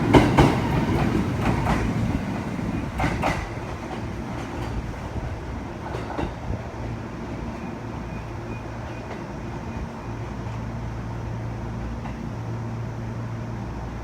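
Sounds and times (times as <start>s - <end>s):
train running hum and rumble: 0.0s - 14.0s.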